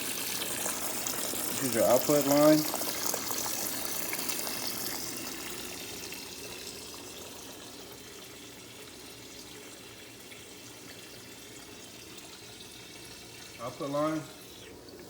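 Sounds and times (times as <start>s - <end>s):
water rushing from hose: 0.0s - 15.0s.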